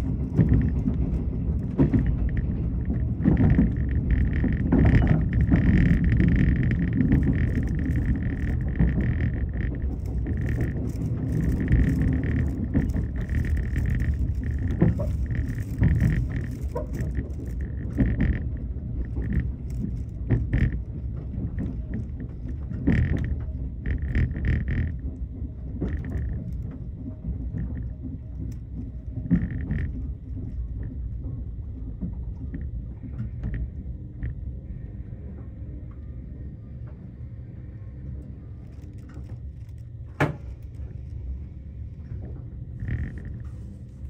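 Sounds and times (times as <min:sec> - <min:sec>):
wheels rumbling on rail: 0:00.0 - 0:44.0.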